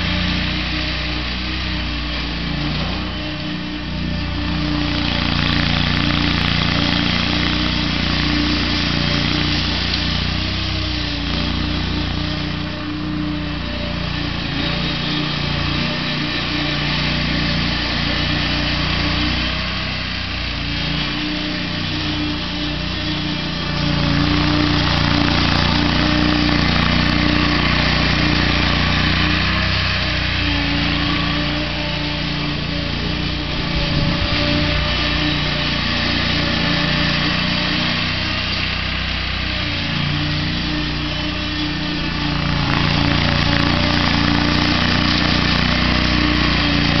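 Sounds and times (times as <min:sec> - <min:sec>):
riding mower engine running: 0:00.0 - 0:47.0.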